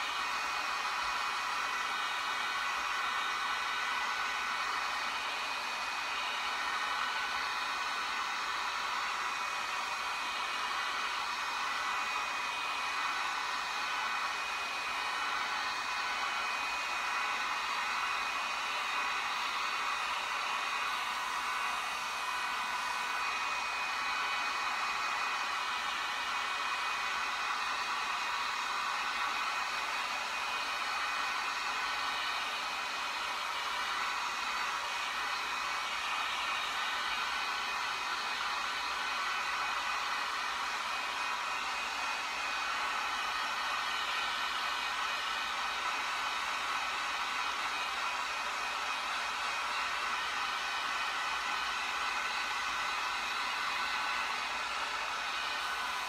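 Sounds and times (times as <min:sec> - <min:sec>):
hot-air blower running: 0:00.0 - 0:56.0.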